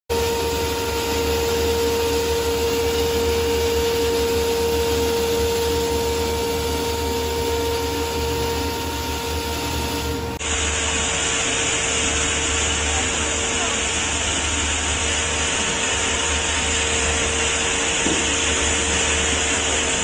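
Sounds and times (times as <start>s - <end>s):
grinder mill running: 0.1s - 20.0s.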